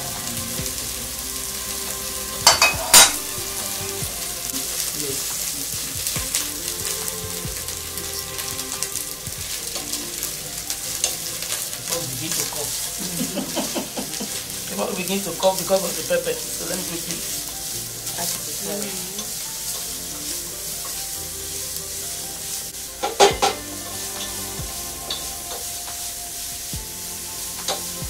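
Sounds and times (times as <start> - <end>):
onions sizzling in oil: 0.0 - 28.0.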